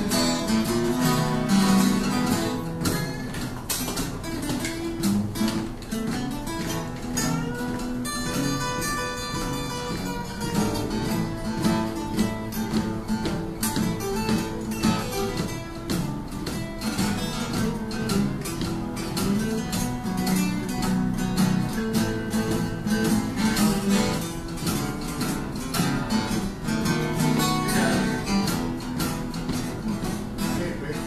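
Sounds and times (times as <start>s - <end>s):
acoustic guitar music: 0.0s - 31.0s.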